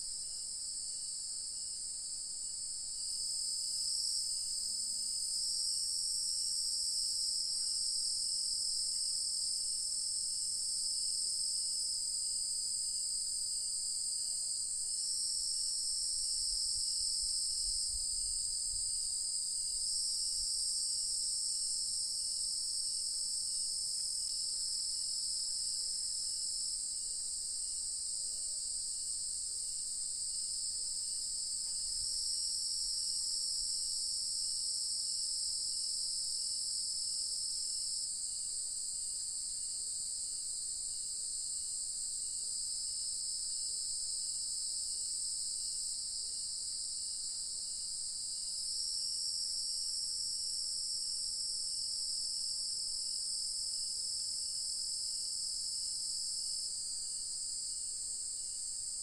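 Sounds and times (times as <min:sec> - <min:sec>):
faint soft insect chirp: 0:00.0 - 0:59.0.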